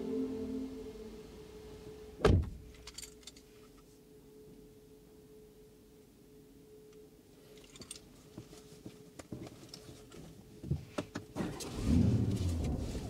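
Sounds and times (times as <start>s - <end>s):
faint steady hum: 0.0s - 11.4s.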